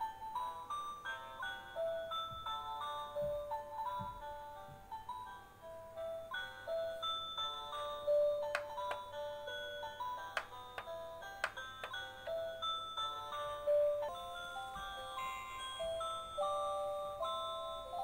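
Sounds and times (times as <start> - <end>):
electronic lullaby tune: 0.0 - 18.0.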